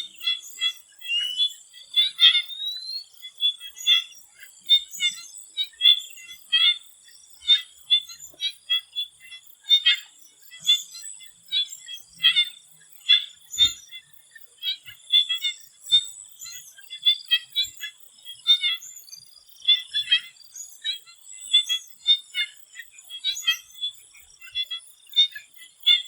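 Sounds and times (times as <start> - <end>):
faint insect drone: 0.0 - 26.0
frogs calling in chorus: 0.0 - 26.0.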